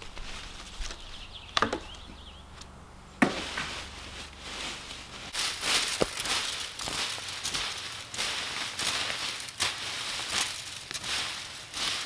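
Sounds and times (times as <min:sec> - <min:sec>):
dry leaves rustling: 0:00.0 - 0:12.0
twigs cracking: 0:00.0 - 0:12.0.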